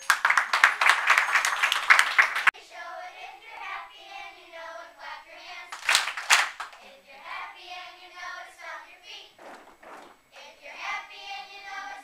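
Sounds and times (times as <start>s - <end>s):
children's choir singing: 0.6s - 12.0s.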